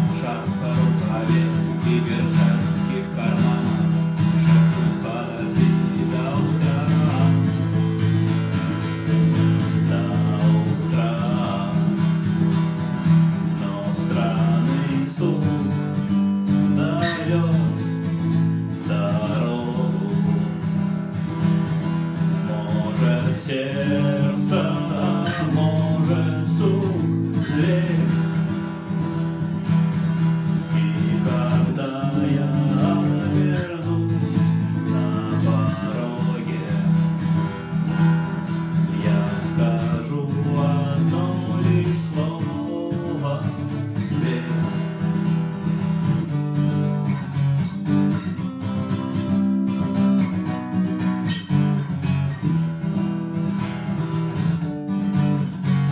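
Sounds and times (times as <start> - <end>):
acoustic guitar strumming chords: 0.0 - 55.9.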